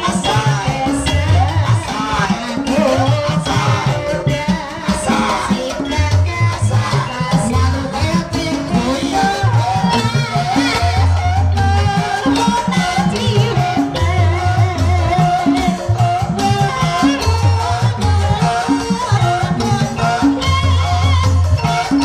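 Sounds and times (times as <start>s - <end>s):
drum: 0.0s - 22.0s
high melody line: 0.0s - 22.0s.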